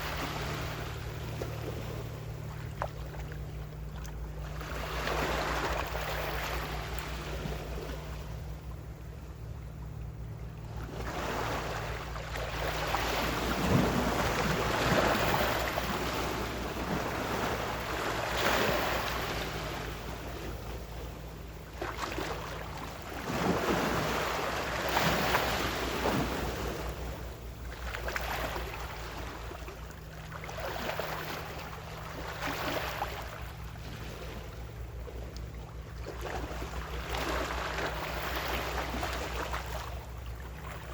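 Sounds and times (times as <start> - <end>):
ocean waves washing in: 0.0 - 40.9
steady low hum: 0.0 - 40.9.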